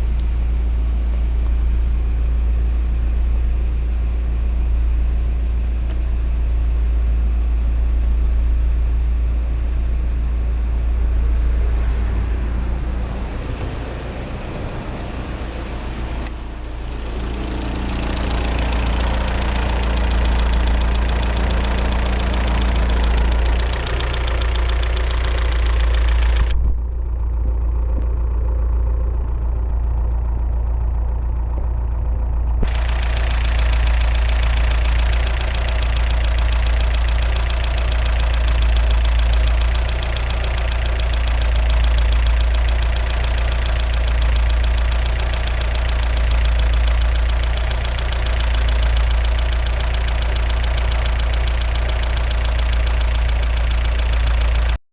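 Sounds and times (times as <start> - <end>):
car engine idling: 0.0 - 54.8.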